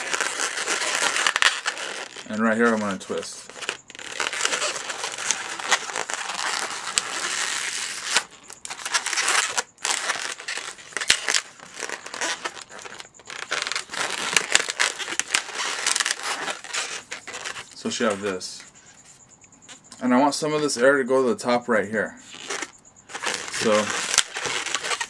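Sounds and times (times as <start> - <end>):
balloons squeaking and rubbing: 0.0 - 20.9, 22.2 - 25.0.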